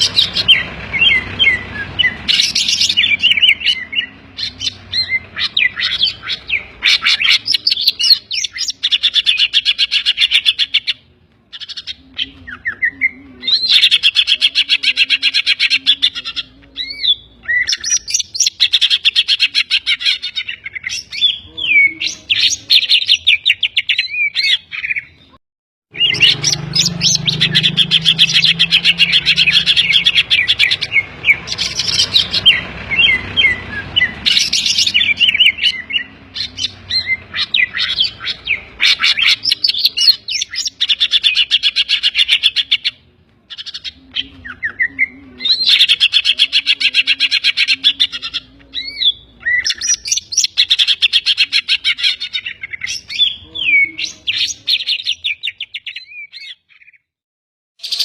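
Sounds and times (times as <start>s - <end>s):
bird singing with trills: 0.0s - 57.2s, 57.8s - 58.0s.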